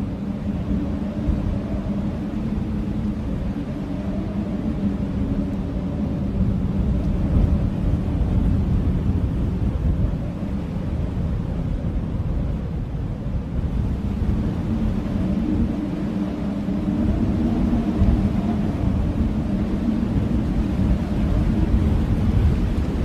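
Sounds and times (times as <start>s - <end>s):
blizzard wind howling: 0.0s - 23.0s.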